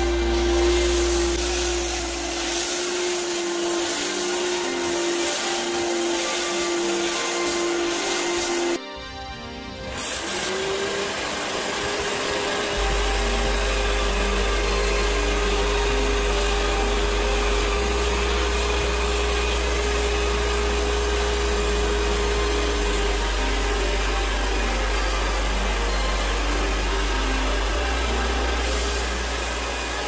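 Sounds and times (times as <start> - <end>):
steam cleaner hissing and humming: 0.0 - 8.8, 9.9 - 30.0.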